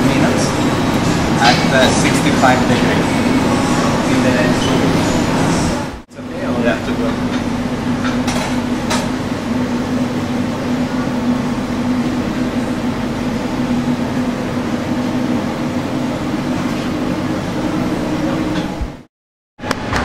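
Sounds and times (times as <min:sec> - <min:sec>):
kitchen mechanical hum: 0:00.0 - 0:20.0.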